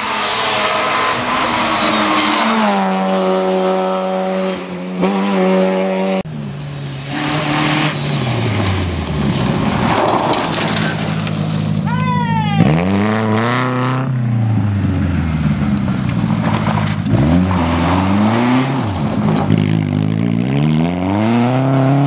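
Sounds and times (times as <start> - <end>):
rally car engine: 0.0 - 22.0
tyre and road noise: 0.0 - 22.0.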